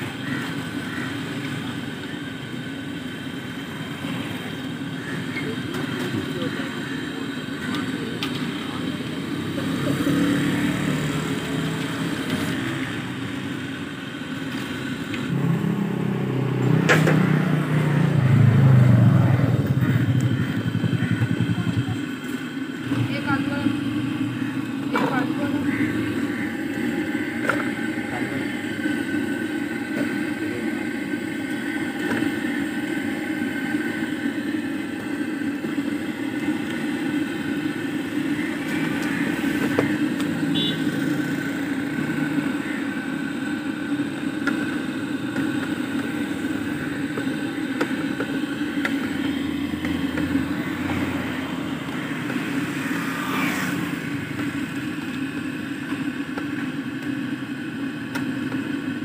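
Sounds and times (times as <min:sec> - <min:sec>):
traffic engine drone: 0:00.0 - 0:59.0.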